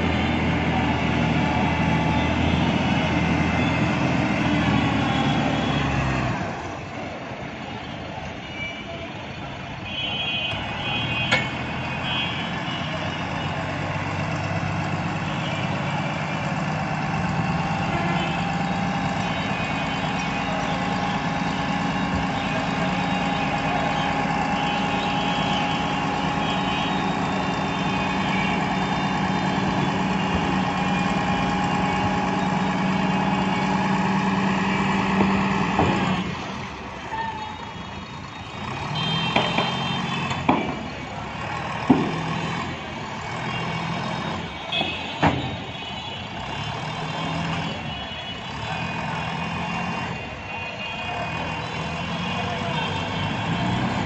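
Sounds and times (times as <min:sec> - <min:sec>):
truck diesel engine revving: 0:00.0 - 0:06.8, 0:11.5 - 0:37.1, 0:38.0 - 0:44.8, 0:46.3 - 0:50.4, 0:51.0 - 0:54.0.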